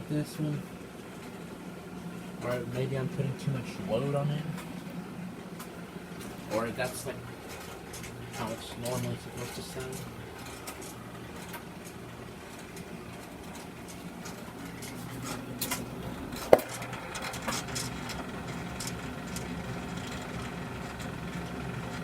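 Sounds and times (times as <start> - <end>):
dryer motor hum: 0.0 - 22.0
dryer drum creaking and clicking: 4.1 - 22.0.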